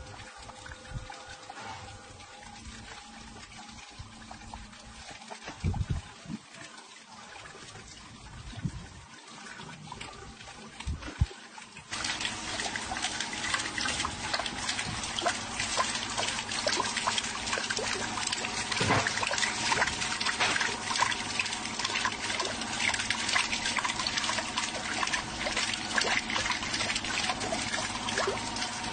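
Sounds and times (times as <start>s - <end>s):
water splashing and trickling: 0.0s - 28.9s.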